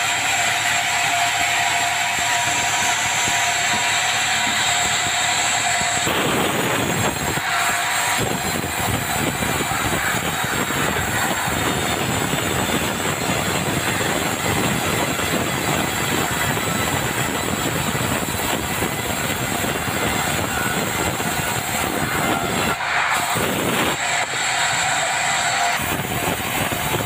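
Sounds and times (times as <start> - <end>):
band saw cutting wood: 0.0 - 27.0.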